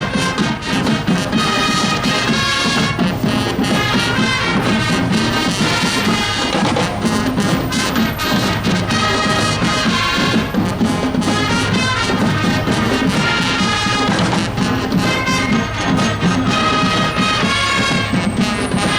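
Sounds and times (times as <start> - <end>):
drums keeping a steady beat: 0.0 - 18.9
marching band brass tune: 0.0 - 18.9.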